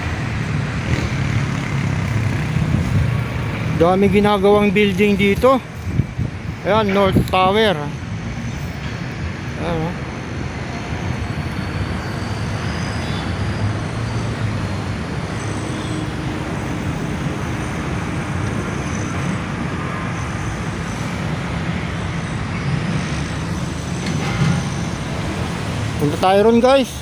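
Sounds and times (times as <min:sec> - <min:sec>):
road traffic hum: 0:00.0 - 0:27.0.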